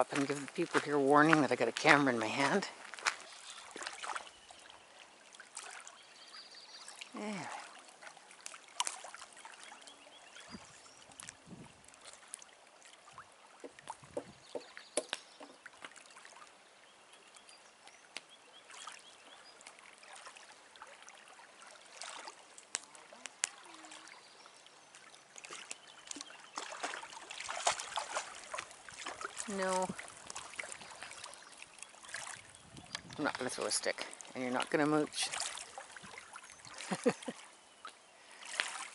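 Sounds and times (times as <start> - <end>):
small waves lapping on gravel: 0.0 - 38.9.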